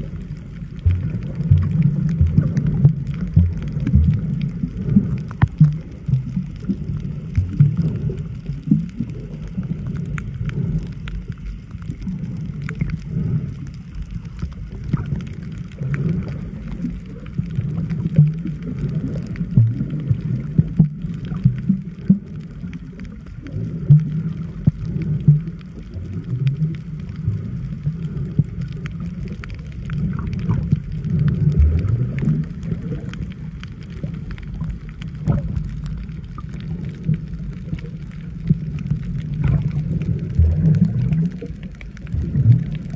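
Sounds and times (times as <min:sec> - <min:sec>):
faint clicks: 0:00.0 - 0:42.9
muffled underwater rumble: 0:00.0 - 0:42.9.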